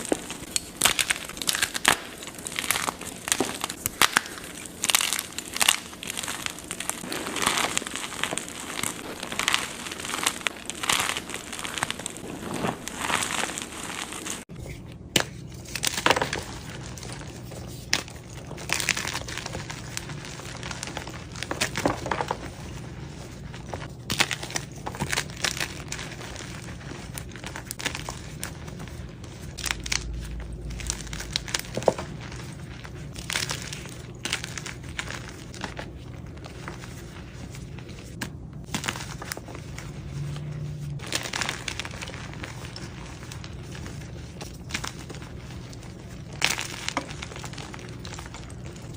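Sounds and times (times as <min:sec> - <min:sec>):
chalk crunching and crumbling: 0:00.0 - 0:48.9.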